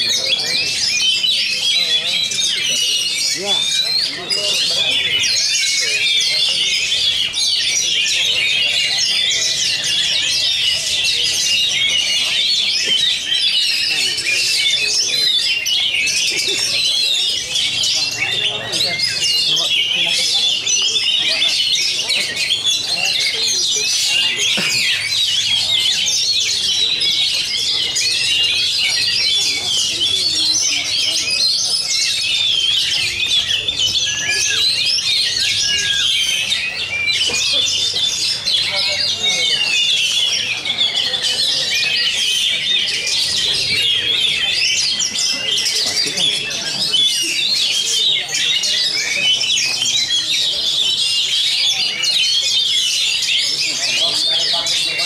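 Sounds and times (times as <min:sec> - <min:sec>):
caged birds singing: 0:00.0 - 0:55.0
magpie-robin singing: 0:00.0 - 0:55.0.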